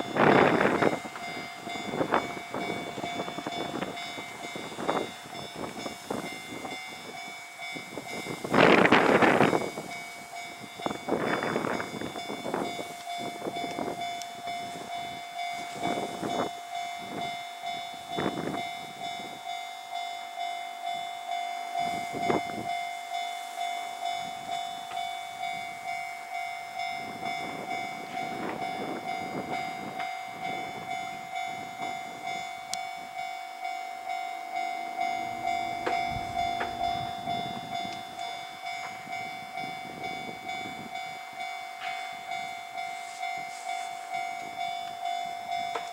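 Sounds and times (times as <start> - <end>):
level crossing alarm ringing: 0.0 - 45.9
train wheels on rails: 0.0 - 45.9.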